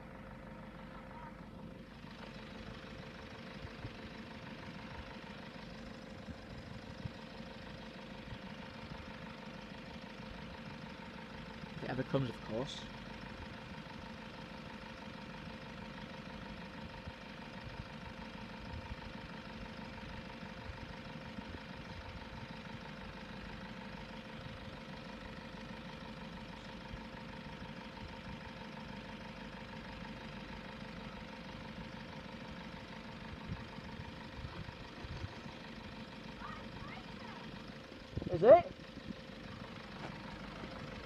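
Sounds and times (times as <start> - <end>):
vehicles idling: 0.0 - 41.0.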